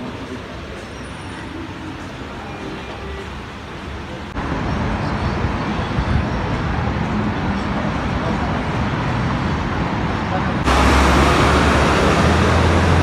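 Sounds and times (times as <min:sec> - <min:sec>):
metro station ambient noise: 0:00.0 - 0:13.0
road traffic: 0:00.0 - 0:13.0.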